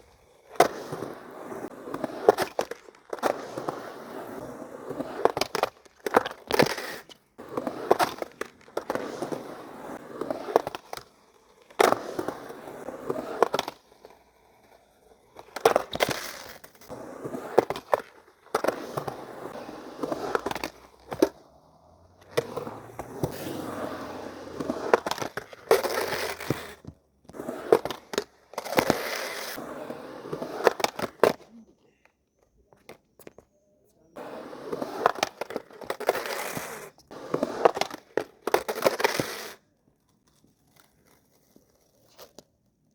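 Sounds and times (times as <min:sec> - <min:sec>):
skateboard wheels rolling on pavement: 0:00.0 - 0:42.9
skateboard clacking on ground: 0:01.8 - 0:29.6, 0:30.2 - 0:42.6.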